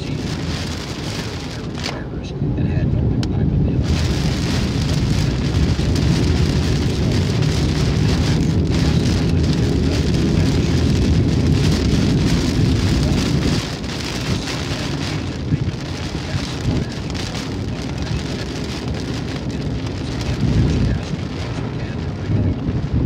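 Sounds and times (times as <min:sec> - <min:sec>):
heavy rain on a car: 0:00.0 - 0:23.0
tyres rumbling on wet road: 0:00.0 - 0:23.0.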